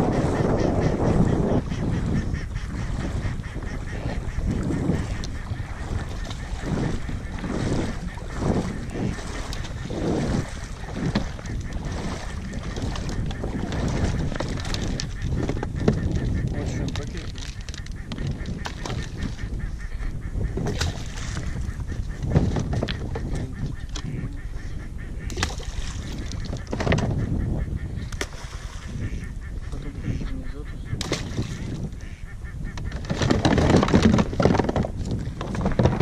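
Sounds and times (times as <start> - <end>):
ducks quacking: 0.0 - 36.0.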